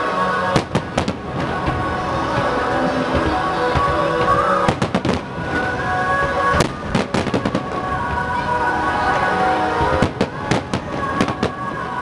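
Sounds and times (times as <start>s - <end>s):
fireworks bangs and crackling: 0.0s - 12.0s
music: 0.0s - 12.0s.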